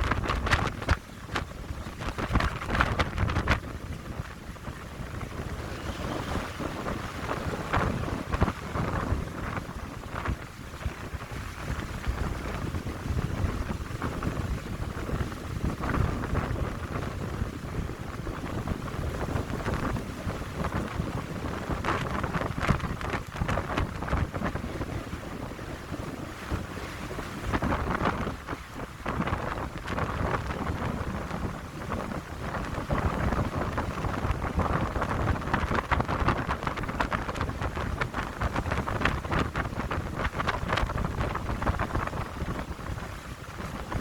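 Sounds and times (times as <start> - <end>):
wind buffeting on microphone: 0.0 - 44.0
wind gusting through pines: 0.0 - 44.0.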